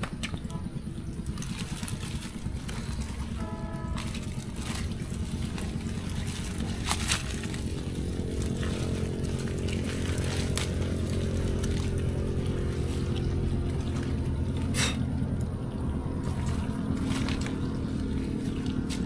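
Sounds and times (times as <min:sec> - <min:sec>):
small engine humming: 0:00.0 - 0:19.0.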